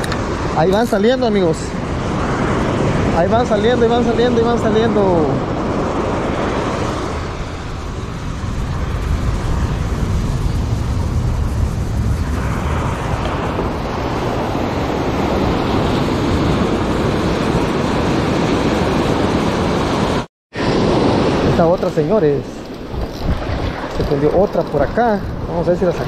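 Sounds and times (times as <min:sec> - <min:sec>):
surf washing up beach: 0:00.0 - 0:26.0
wind rumbling on microphone: 0:00.0 - 0:26.0.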